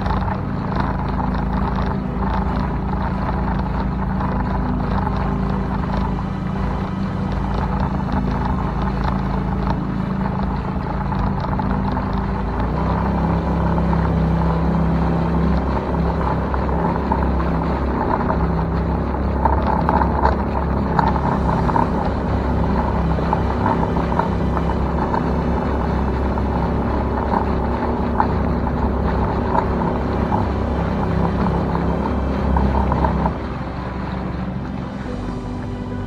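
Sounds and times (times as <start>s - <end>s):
outboard motor running: 0.0s - 36.0s.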